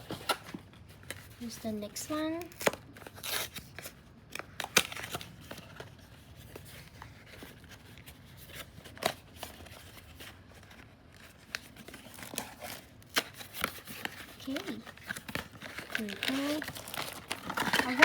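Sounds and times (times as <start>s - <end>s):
packaging crinkling and tearing: 0.0s - 18.0s.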